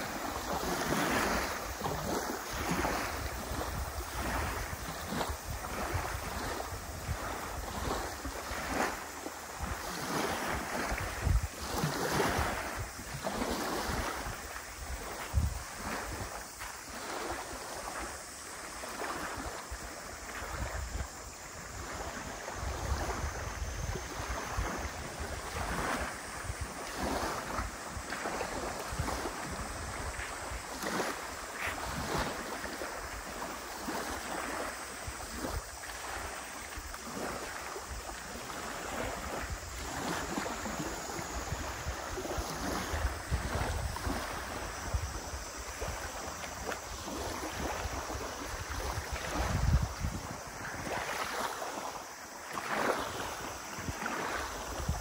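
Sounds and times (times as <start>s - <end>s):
wind buffeting microphone: 0.0s - 18.4s, 19.0s - 51.8s, 52.7s - 55.0s
waves lapping on pebbly shore: 0.0s - 55.0s.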